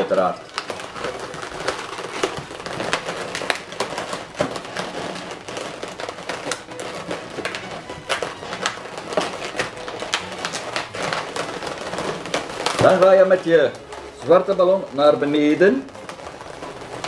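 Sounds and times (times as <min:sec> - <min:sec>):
balloons crackling and rubbing: 0:00.0 - 0:17.0.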